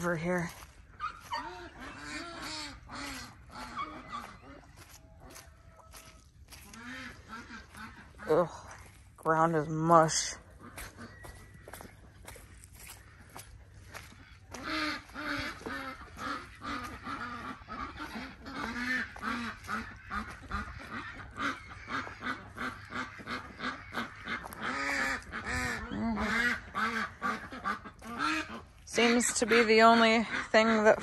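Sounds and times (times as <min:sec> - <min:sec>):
waterfowl flock calling: 0:00.0 - 0:31.0.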